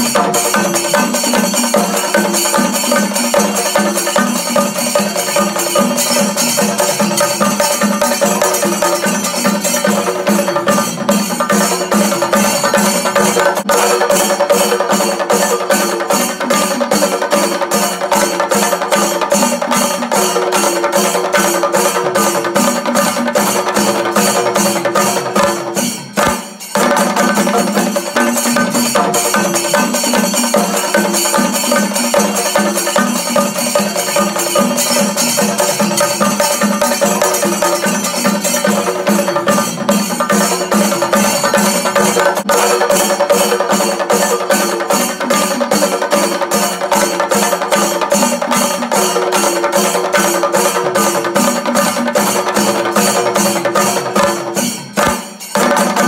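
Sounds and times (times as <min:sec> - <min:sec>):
fast percussion beat: 0:00.0 - 0:56.0.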